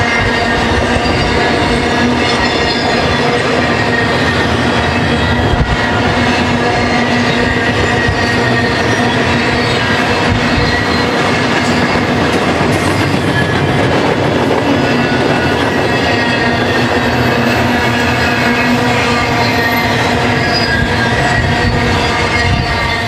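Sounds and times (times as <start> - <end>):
freight train wheels rumbling on rail: 0.0 - 23.0.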